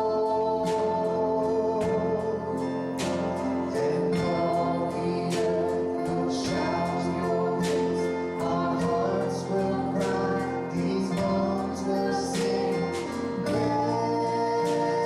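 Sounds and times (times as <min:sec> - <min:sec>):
guitar accompaniment: 0:00.0 - 0:15.0
person singing worship song: 0:00.0 - 0:15.0.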